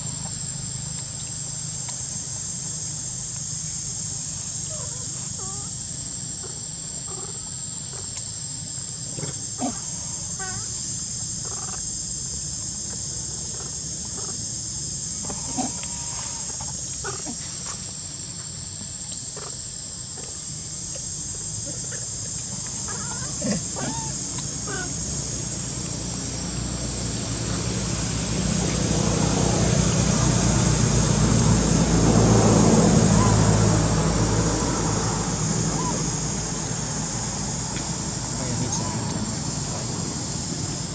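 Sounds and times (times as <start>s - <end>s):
high-pitched insect buzzing: 0.0s - 40.9s.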